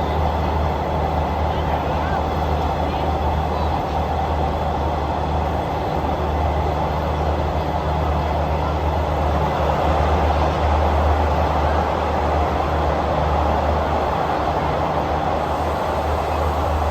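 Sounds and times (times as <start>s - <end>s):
train rumbling on track: 0.0s - 16.9s.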